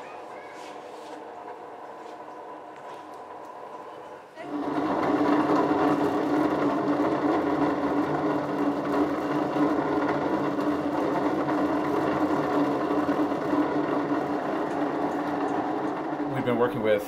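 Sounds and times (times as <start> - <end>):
motor hum: 0.0 - 17.0.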